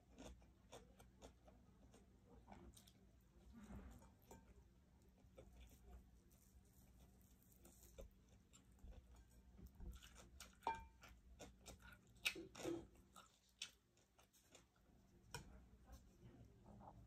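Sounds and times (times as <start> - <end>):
chewing with mouth clicks: 0.0 - 3.3, 4.0 - 15.2.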